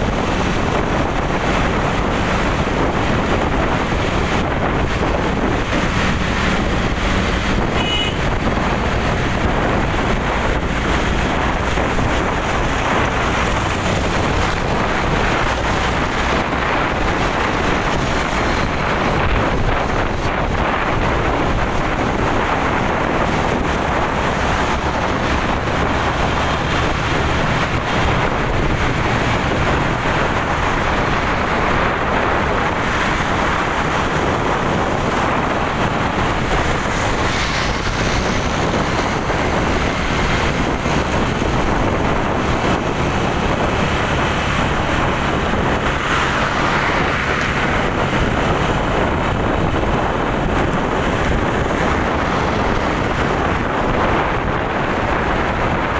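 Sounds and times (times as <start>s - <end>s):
moving vehicle noise: 0.0s - 55.9s
wind over microphone: 0.0s - 55.9s.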